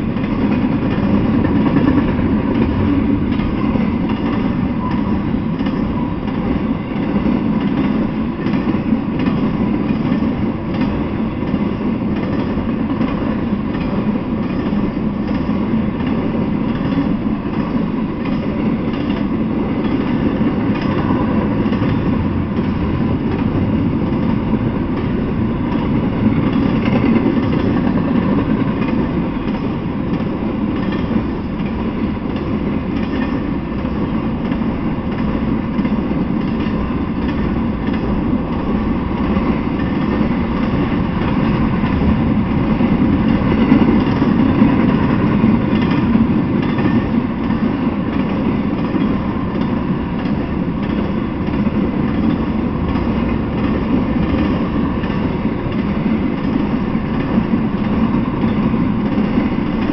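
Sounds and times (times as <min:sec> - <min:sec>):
freight train cars rolling on rails: 0:00.0 - 0:59.9.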